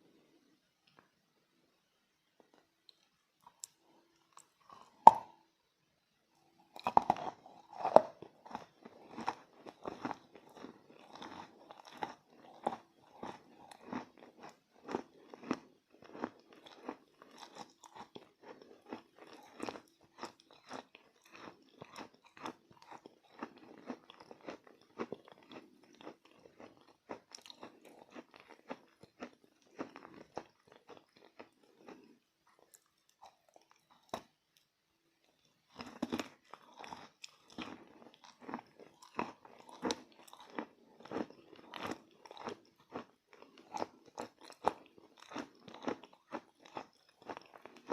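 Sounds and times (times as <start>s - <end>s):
chewing crunches: 2.4s - 5.4s, 6.4s - 47.9s.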